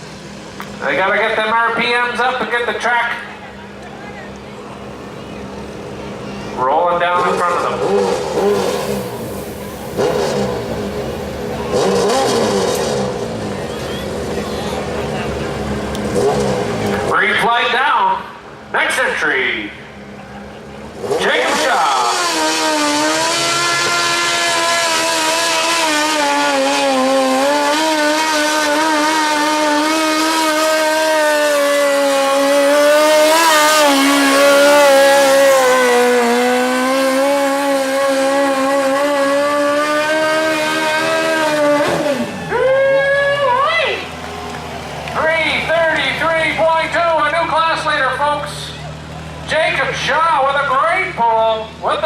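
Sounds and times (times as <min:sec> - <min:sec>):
motorcycle engine revving: 0:05.4 - 0:17.5, 0:20.4 - 0:52.0.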